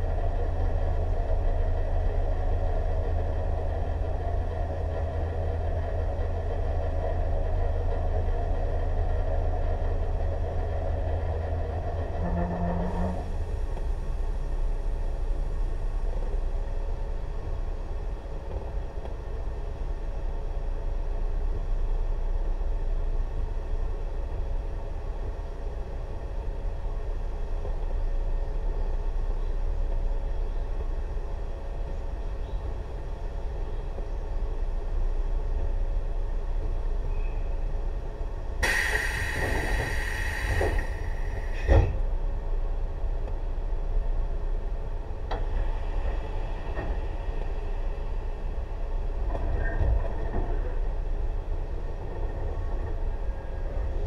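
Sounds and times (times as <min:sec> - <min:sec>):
train equipment humming: 0:00.0 - 0:54.0.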